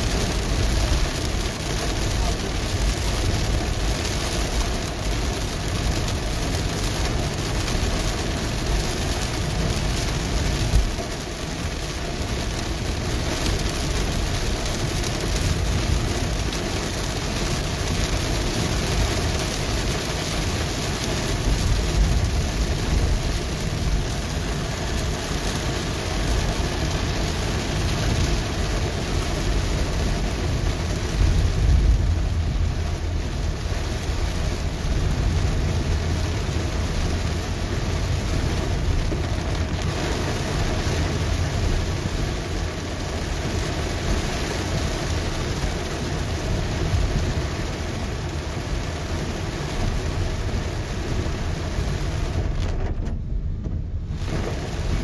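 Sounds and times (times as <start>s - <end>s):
heavy rain drumming on car roof: 0.0s - 55.0s
moving car rumble: 0.0s - 55.0s.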